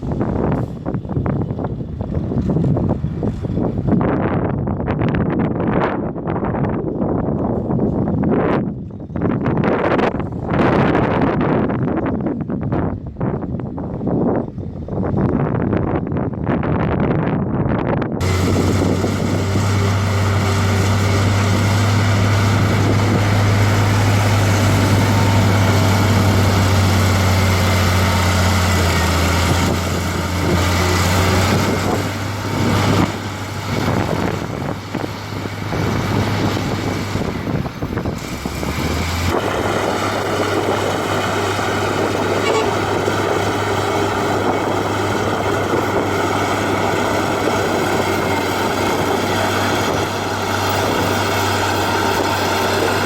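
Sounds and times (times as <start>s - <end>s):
diesel machinery engine drone: 0.0s - 16.4s, 18.1s - 53.0s.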